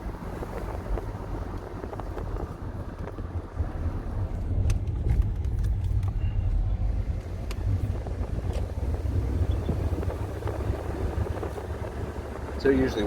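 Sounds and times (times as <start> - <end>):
vehicle road noise rumble: 0.0 - 13.0.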